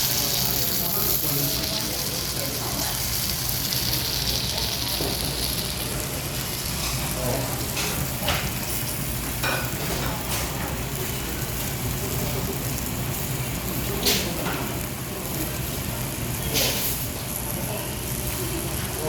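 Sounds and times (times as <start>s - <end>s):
food sizzling on stove: 0.0s - 19.0s.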